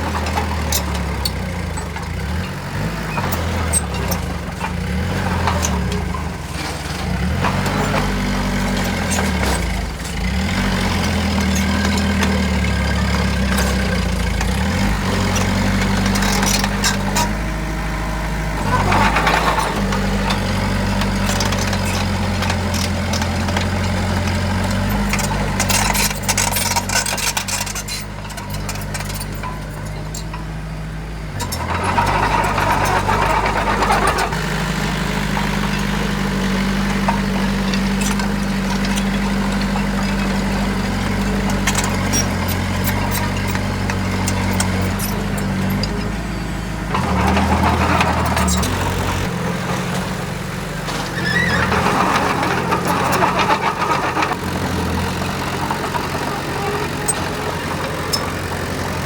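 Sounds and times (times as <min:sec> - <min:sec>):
heavy diesel engine running: 0:00.0 - 0:59.0
rough mechanical noise: 0:00.0 - 0:59.0.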